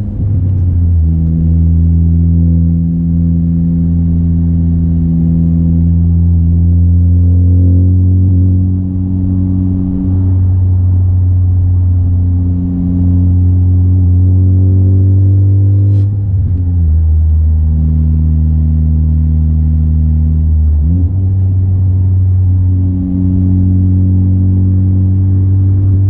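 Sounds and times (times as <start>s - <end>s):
car exhaust drone in cabin: 0.0s - 26.0s.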